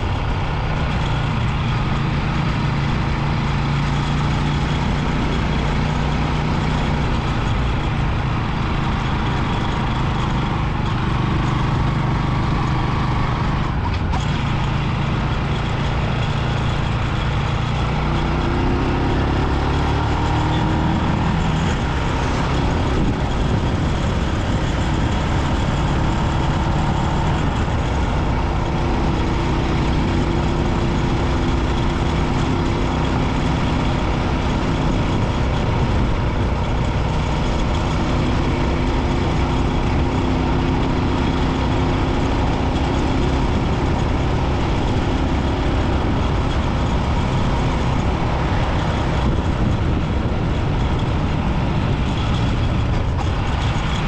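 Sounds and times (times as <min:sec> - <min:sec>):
motorbike engine running: 0:00.0 - 0:54.0
wind and road noise: 0:00.0 - 0:54.0.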